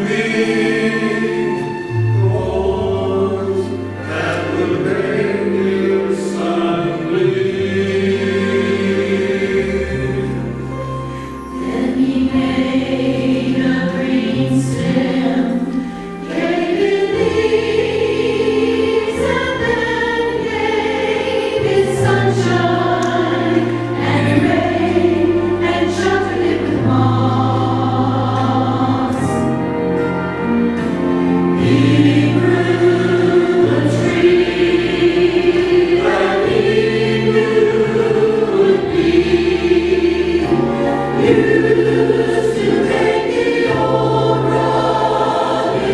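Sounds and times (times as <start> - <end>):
church choir singing: 0.0 - 45.9.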